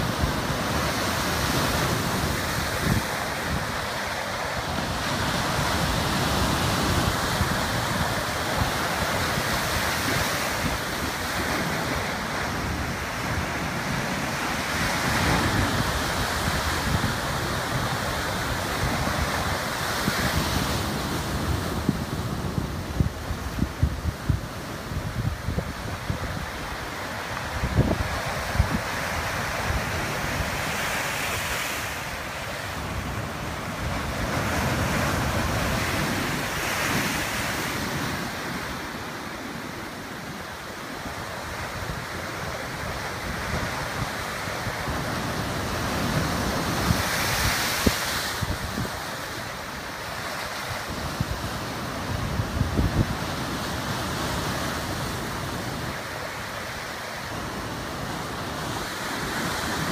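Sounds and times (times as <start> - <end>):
wind buffeting microphone: 0.0 - 38.6, 41.0 - 49.5, 50.8 - 56.1
surf breaking on rocky shore: 0.0 - 59.9.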